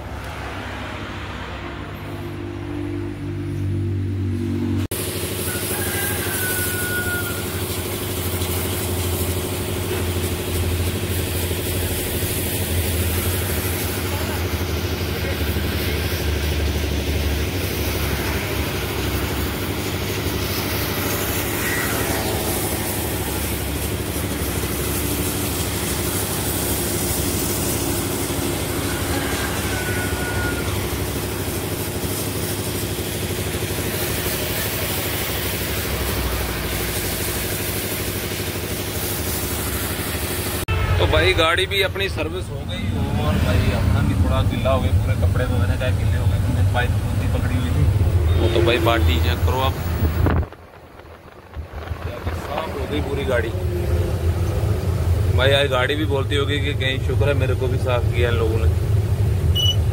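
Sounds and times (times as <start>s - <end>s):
pressure washer motor running: 0.0s - 50.4s, 52.3s - 59.9s
water jet spraying on metal: 4.9s - 59.9s.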